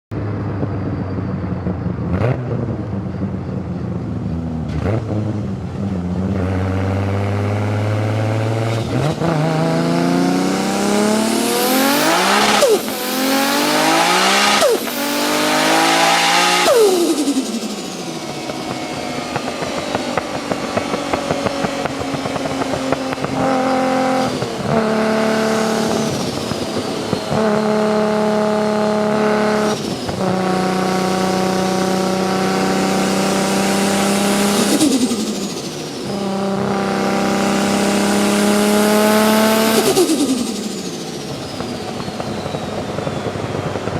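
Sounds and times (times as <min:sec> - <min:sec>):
car engine revving: 0:00.2 - 0:43.9.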